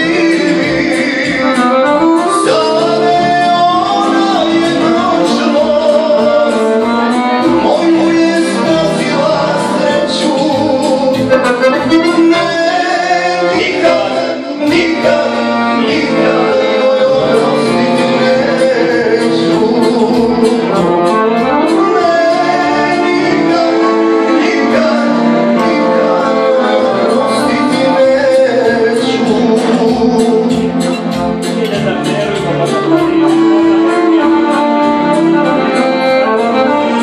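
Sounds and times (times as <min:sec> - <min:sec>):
live instrumental accompaniment: 0:00.0 - 0:37.0
man singing into microphone: 0:00.0 - 0:37.0.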